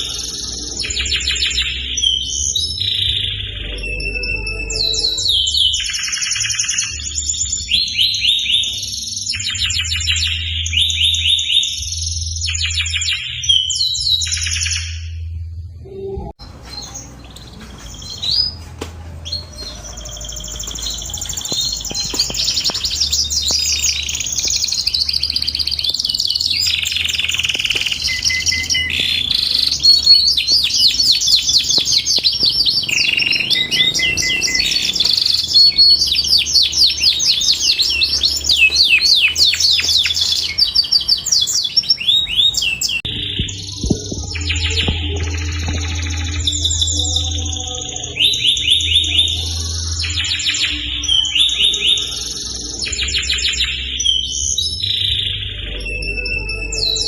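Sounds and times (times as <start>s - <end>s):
canary singing trills: 0.0s - 15.2s, 15.9s - 18.6s, 19.2s - 57.0s.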